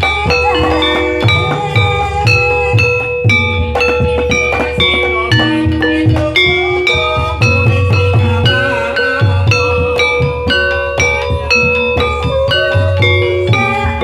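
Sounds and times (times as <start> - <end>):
tuned percussion notes: 0.0 - 14.0.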